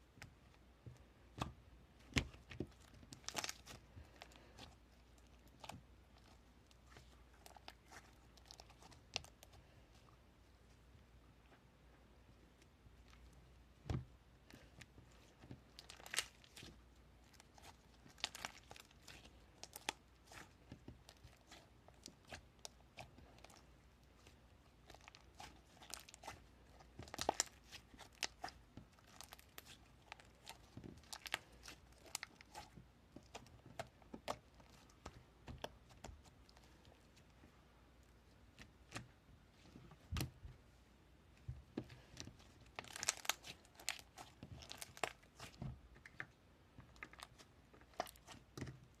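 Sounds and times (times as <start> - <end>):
crinkling and crackling handling: 0.1 - 49.0.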